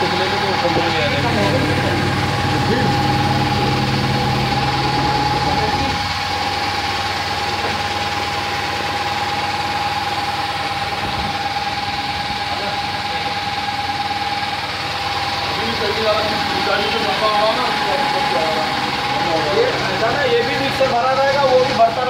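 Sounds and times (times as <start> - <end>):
high motor whine: 0.0 - 22.0
pasta machine running: 0.0 - 22.0.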